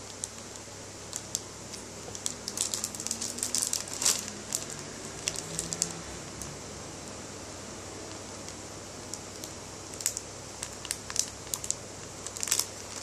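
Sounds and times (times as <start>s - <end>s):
plastic wrapping crinkling: 0.0s - 6.6s, 8.0s - 13.0s.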